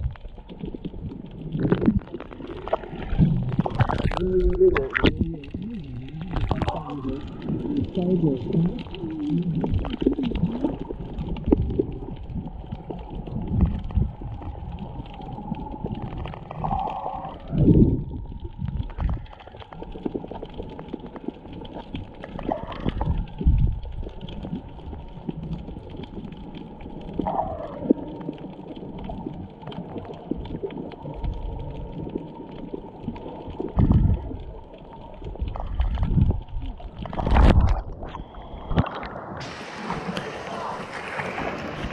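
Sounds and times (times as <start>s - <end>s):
muffled underwater rumbling: 0.0s - 41.9s
water crackles and gurgles: 0.0s - 41.9s.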